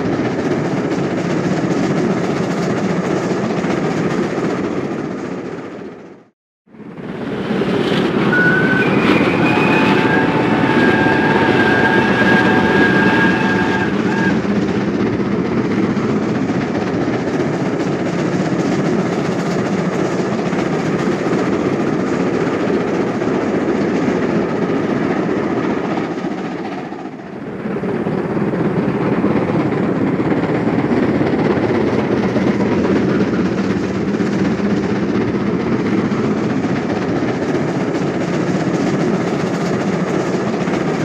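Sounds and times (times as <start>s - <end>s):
steam locomotive running: 0.0s - 41.0s.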